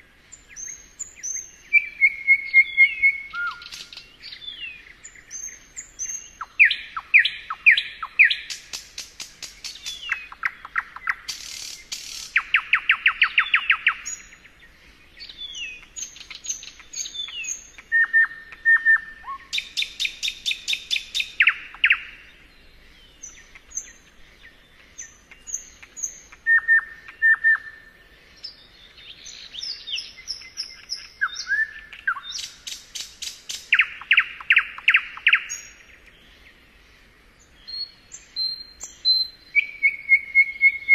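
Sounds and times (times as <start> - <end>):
nightingale singing: 0.0 - 40.9.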